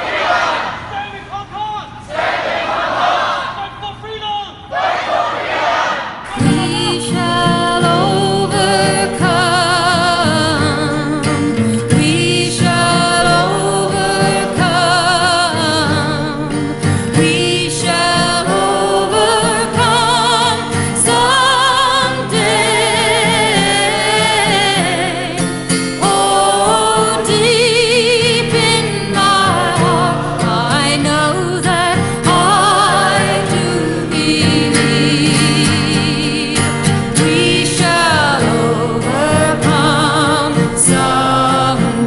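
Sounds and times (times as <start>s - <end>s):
song with wavering singing: 6.4s - 42.0s.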